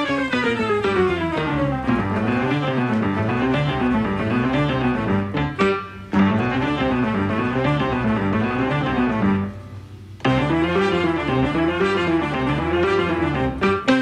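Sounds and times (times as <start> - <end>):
bouncy instrumental music: 0.0 - 14.0.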